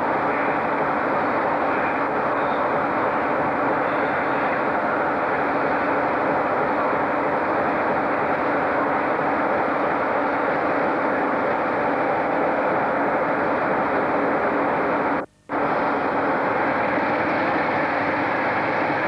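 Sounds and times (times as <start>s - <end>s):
diesel locomotive engine idling: 0.0s - 19.0s.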